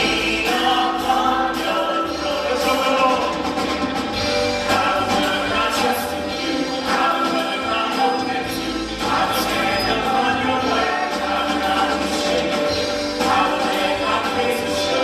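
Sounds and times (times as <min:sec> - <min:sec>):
man and woman singing gospel: 0:00.0 - 0:15.0
steady bass: 0:00.0 - 0:15.0.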